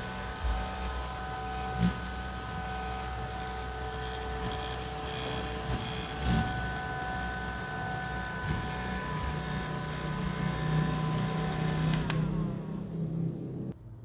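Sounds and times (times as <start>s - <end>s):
desk fan motor humming: 0.0s - 13.7s.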